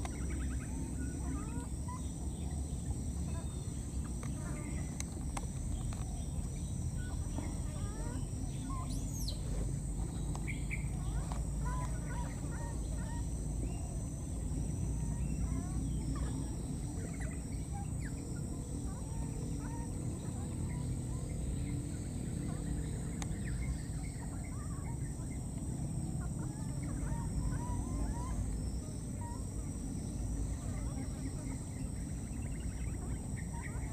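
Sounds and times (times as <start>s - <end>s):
high insect drone: 0.0s - 33.9s
low outdoor rumble: 0.0s - 33.9s.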